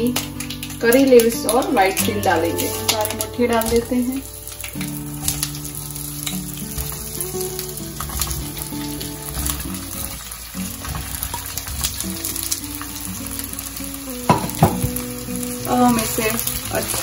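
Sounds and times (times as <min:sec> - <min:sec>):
seeds sizzling in hot oil: 0:00.0 - 0:17.0
soft background music: 0:00.0 - 0:17.0.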